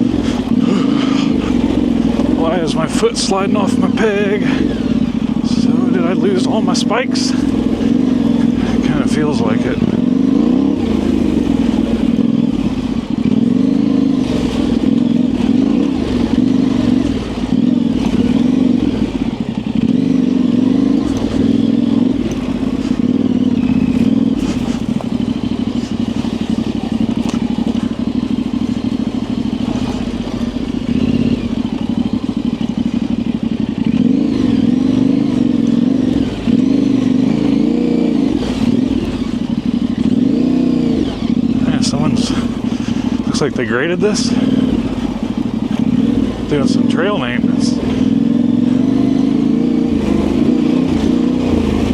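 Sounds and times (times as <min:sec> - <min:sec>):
motorcycle clattering over rough ground: 0:00.0 - 0:51.9
motorcycle engine revving: 0:00.0 - 0:51.9.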